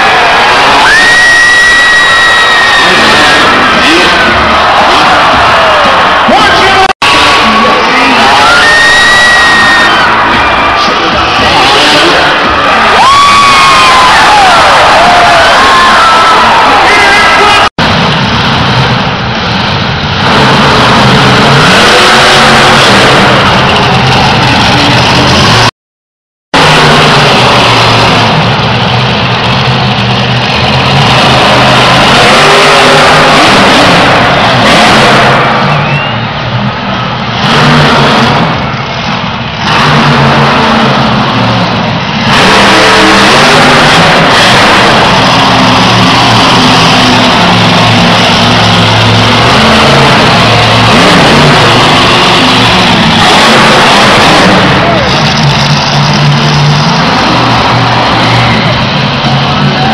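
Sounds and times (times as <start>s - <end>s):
monster truck engine revving: 0.0s - 25.7s, 26.6s - 59.9s.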